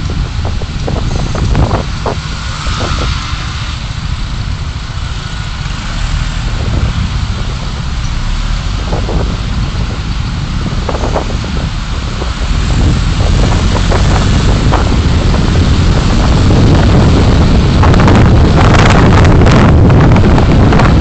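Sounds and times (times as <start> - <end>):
road traffic rumble: 0.0 - 21.0
wind on microphone: 0.0 - 21.0.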